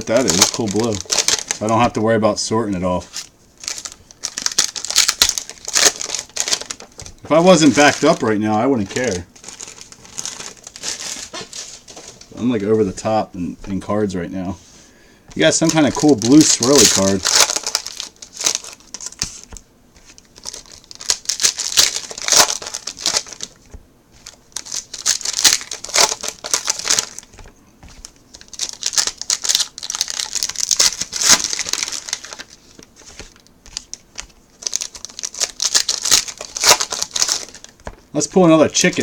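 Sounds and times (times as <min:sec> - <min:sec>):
card pack wrappers crinkling: 0:00.0 - 0:13.8, 0:15.3 - 0:39.0.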